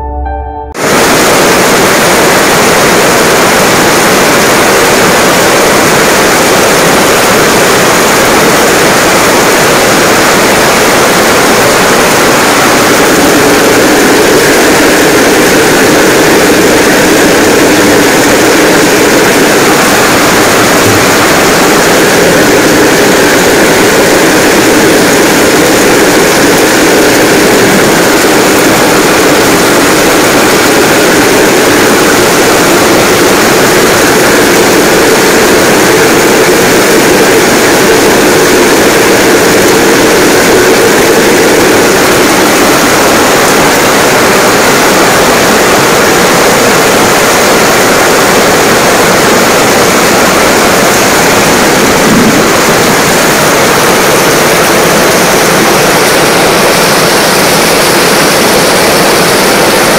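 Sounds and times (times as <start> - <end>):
heavy rain on stone: 0.8 - 59.9.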